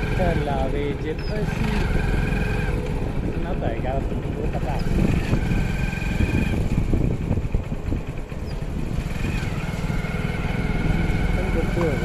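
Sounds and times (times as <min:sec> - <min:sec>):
small motorbike engine running: 0:00.0 - 0:12.0
wind rumbling on microphone: 0:00.0 - 0:12.0.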